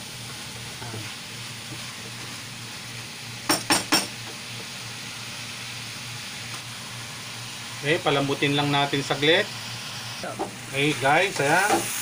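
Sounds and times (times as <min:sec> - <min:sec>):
squash sizzling in a frying pan: 0:00.0 - 0:12.0.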